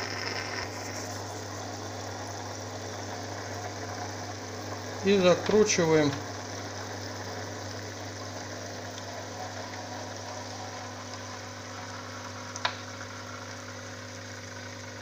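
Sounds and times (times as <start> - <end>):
air pump humming: 0.0 - 15.0
fizzing bubbles: 0.0 - 15.0.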